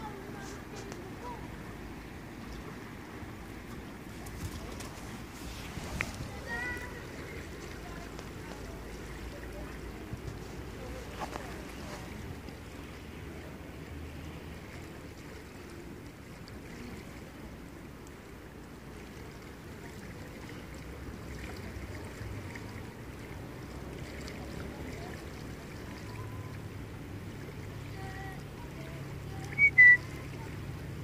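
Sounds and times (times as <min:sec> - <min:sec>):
river rushing: 0:00.0 - 0:31.0.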